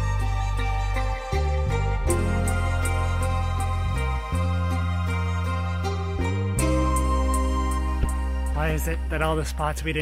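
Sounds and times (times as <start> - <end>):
soft slow instrumental music: 0.0 - 10.0.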